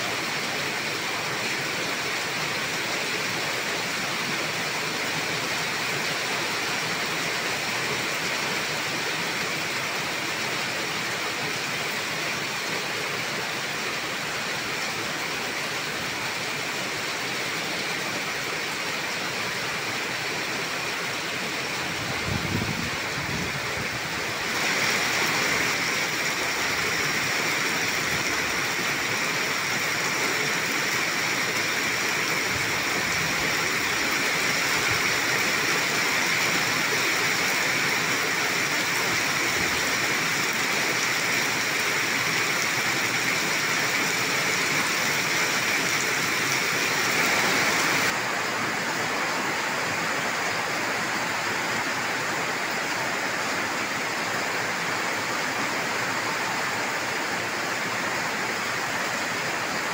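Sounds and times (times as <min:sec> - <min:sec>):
heavy rain splashing on ground: 0:00.0 - 0:59.9.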